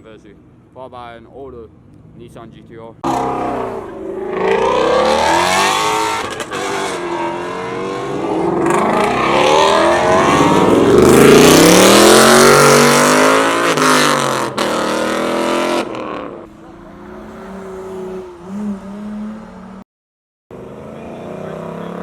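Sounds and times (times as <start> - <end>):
car engines revving and accelerating: 1.7 - 19.8, 20.5 - 22.0.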